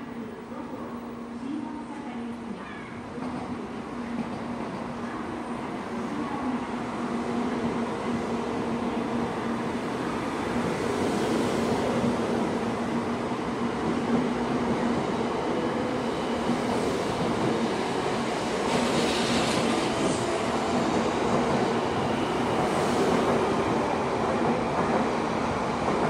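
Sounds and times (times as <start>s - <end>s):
train rolling past: 0.8s - 26.0s.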